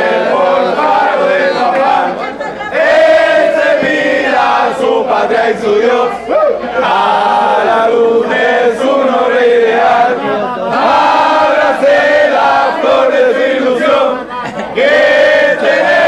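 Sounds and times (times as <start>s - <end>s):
men singing in chorus: 0.0s - 16.0s.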